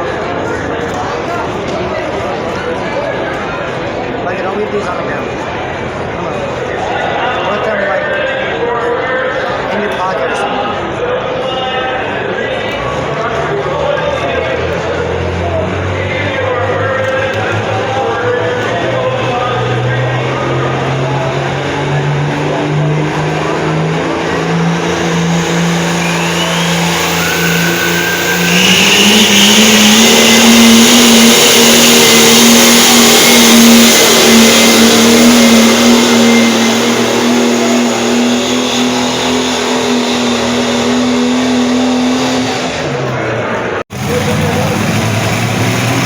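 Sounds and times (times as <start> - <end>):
truck engine running hard: 0.0 - 46.0.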